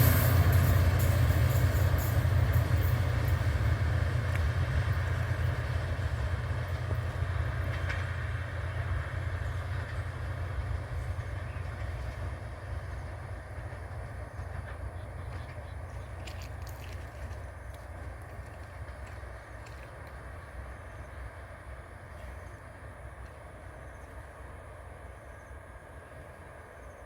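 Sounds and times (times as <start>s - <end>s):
diesel railcar rumbling: 0.0s - 27.0s.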